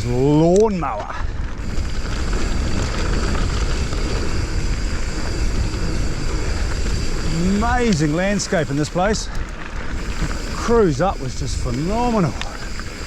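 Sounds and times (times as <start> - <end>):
bike tyres crunching on gravel: 0.0 - 13.0
wind rumble on microphone: 0.0 - 13.0.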